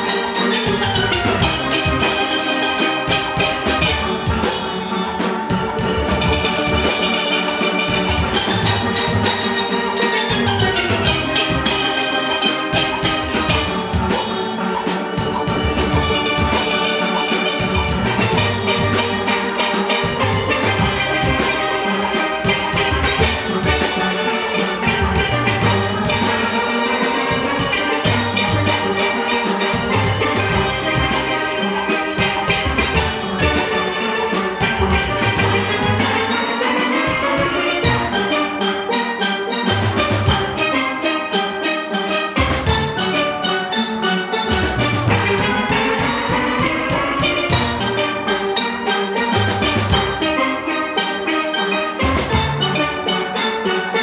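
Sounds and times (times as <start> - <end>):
drum kit beat: 0.0 - 38.7, 39.6 - 41.0, 42.3 - 43.2, 44.5 - 48.6, 49.2 - 53.4
steelpans playing fast melody: 0.0 - 54.0.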